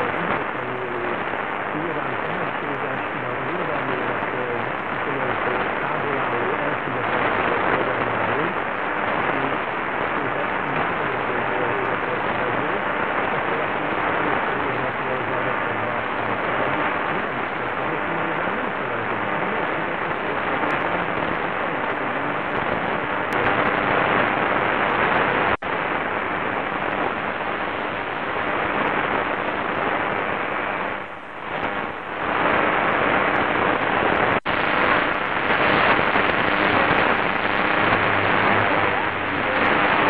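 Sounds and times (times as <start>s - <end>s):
radio static hiss: 0.0s - 40.0s.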